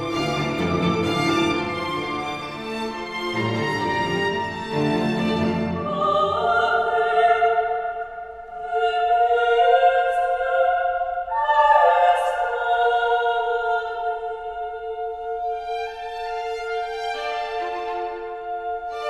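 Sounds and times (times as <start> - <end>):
choir singing in harmony: 0.0 - 16.0, 18.1 - 19.0.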